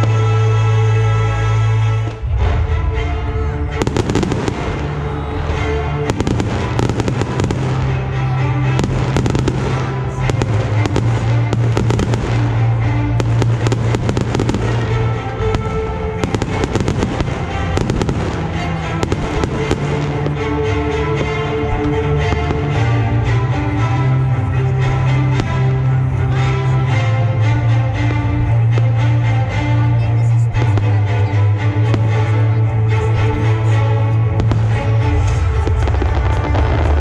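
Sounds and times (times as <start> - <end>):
music with held tones: 0.0 - 37.0.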